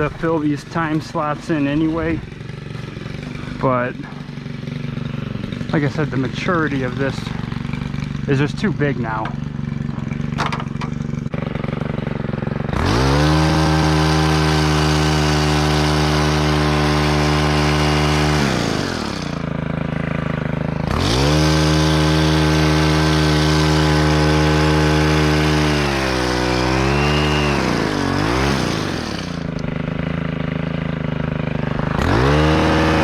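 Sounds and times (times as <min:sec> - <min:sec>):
hedge trimmer engine revving: 0:00.0 - 0:33.0.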